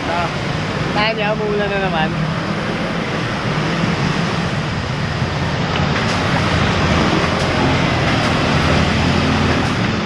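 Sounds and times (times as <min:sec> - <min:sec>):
road and air noise: 0:00.0 - 0:10.0.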